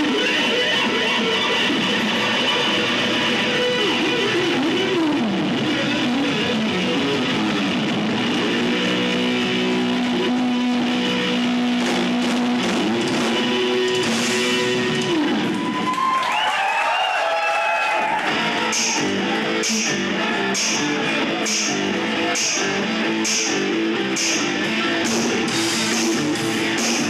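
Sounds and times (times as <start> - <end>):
electric guitar bending notes: 0.0 - 16.0, 18.0 - 27.0
live rock band playing: 0.0 - 16.3, 17.8 - 27.0.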